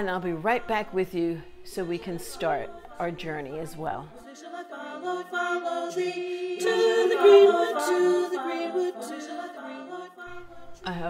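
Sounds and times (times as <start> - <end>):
person singing a cappella: 0.0 - 11.0.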